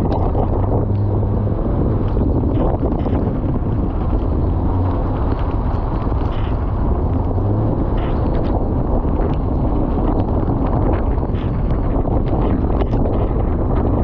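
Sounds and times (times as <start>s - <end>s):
strong wind blowing across microphone: 0.0s - 14.0s.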